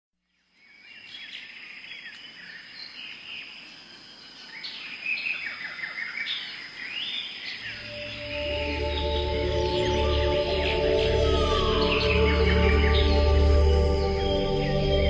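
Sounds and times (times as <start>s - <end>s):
songbirds singing and chirping: 0.3s - 15.0s.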